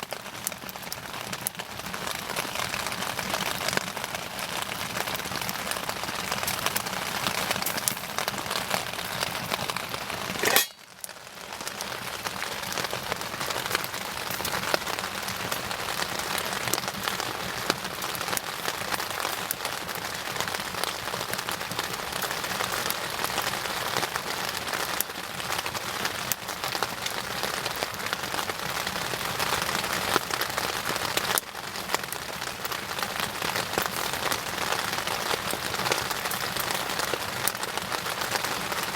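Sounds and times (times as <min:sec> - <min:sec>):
bonfire crackling and popping: 0:00.0 - 0:38.9
loud fire crack: 0:00.0 - 0:38.9.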